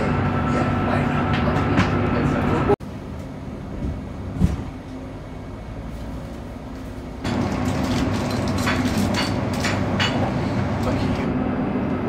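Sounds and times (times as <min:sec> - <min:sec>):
train interior rumble: 0:00.0 - 0:12.0.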